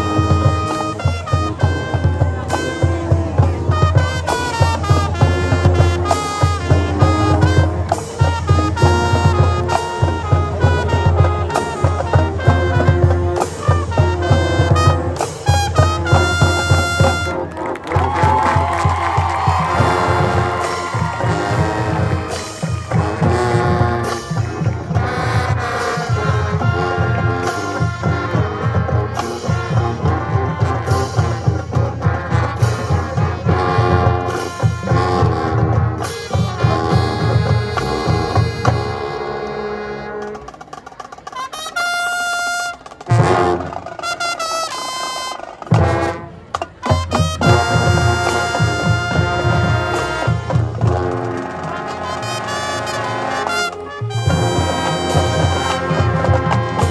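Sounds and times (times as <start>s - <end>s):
steady drum beat: 0.0s - 39.2s, 45.4s - 56.9s
brass holding chords: 0.0s - 40.6s, 41.5s - 56.9s
marching band playing: 0.0s - 56.9s.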